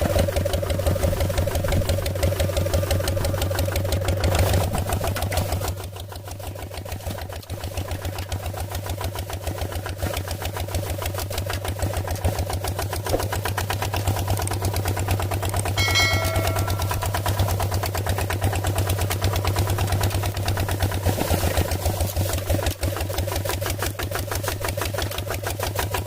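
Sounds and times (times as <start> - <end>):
small tractor engine chugging: 0.0 - 26.0.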